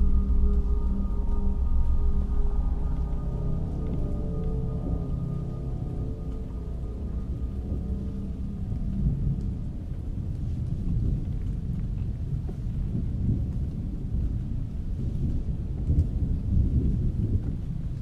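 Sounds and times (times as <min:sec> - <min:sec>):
rain patter: 0:00.0 - 0:18.0
thunder rumbling: 0:00.0 - 0:18.0.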